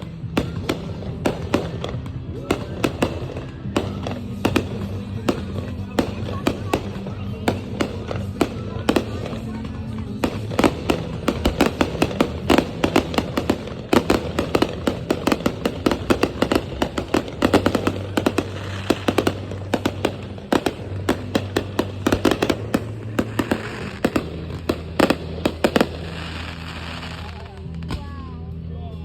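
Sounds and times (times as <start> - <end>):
fireworks bangs and pops: 0.0 - 28.2.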